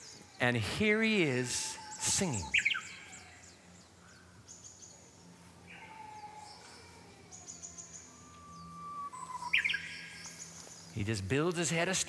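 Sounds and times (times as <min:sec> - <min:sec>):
bush warbler song: 0:00.0 - 0:06.7, 0:07.3 - 0:12.0
small birds trilling: 0:00.0 - 0:12.0.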